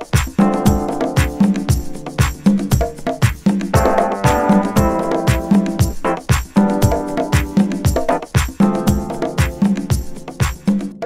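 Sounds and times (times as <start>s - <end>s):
steady drum beat: 0.0s - 11.0s
bass and keyboard notes: 0.4s - 10.4s.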